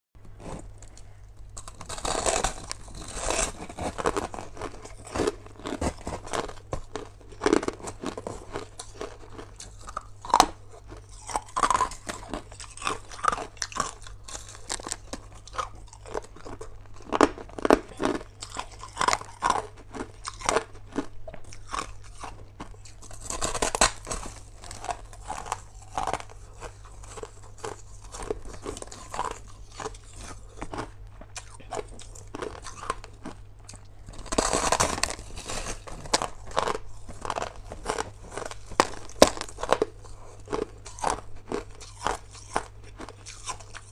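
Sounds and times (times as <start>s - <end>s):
steady low hum: 0.2s - 43.9s
ice being chewed: 0.3s - 43.9s.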